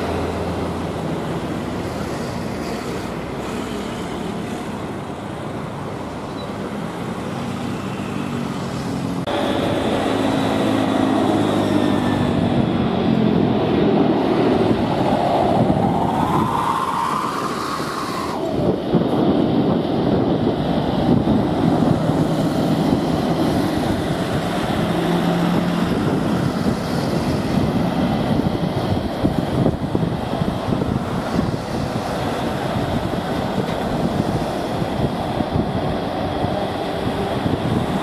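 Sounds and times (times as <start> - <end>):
jet engines at takeoff power: 0.0 - 38.0.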